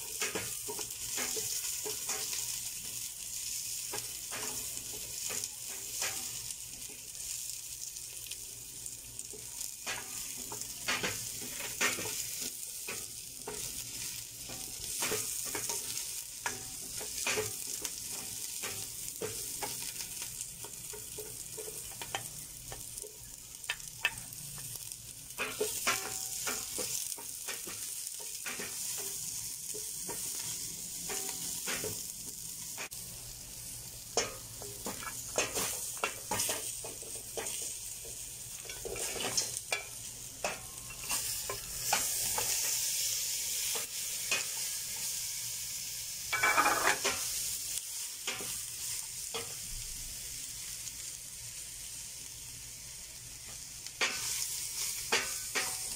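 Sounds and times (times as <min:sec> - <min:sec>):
food sizzling in oil: 0:00.0 - 0:55.9.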